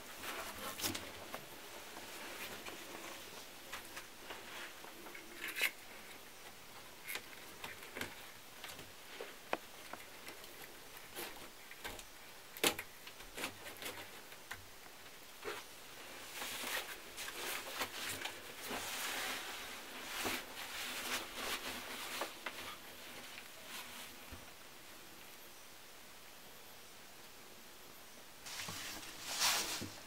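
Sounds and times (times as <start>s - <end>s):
rustling: 0.0s - 25.1s, 28.4s - 30.0s.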